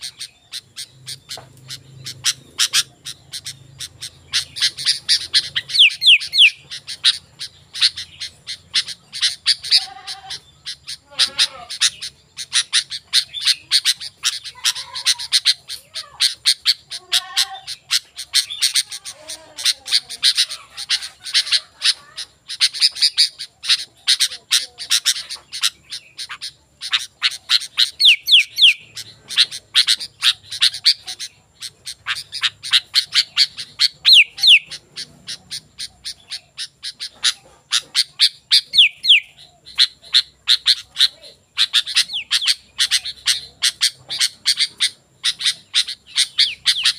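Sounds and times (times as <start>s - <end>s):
bulbul singing sharp chirps: 0.0s - 46.9s.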